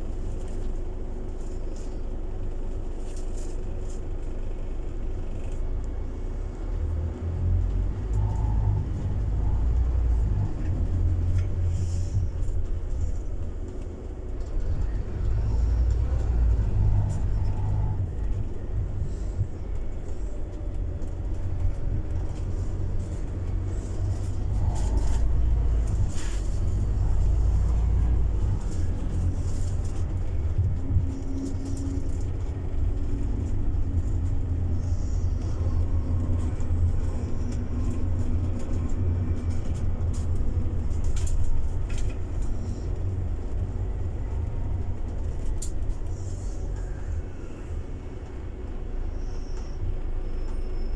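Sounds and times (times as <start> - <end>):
bus engine and road rumble: 0.0 - 50.9.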